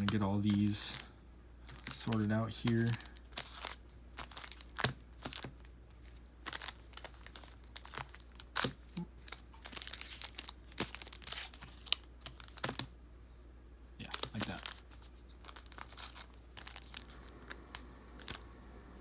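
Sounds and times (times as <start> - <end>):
foil wrappers crinkling: 0.0 - 12.9, 14.0 - 18.4.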